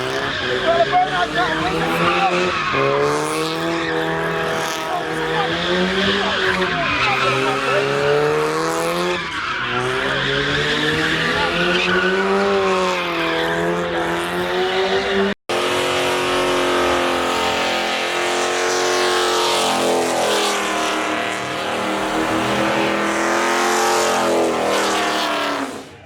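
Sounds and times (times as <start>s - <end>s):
car engine at high revs: 0.0s - 26.0s
tires squealing: 0.0s - 26.0s.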